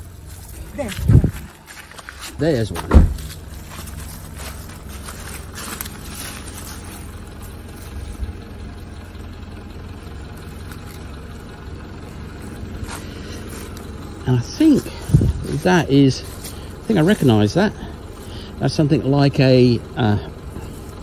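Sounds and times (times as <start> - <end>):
dry leaves rustling: 0.0 - 21.0
low engine hum: 0.0 - 21.0.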